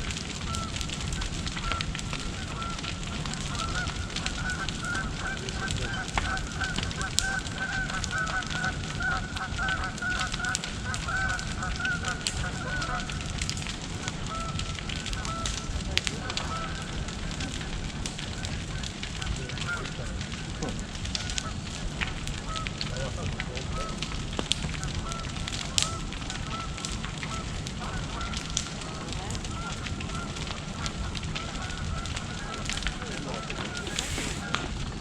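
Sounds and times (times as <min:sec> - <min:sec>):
bonfire crackling and popping: 0:00.0 - 0:35.0.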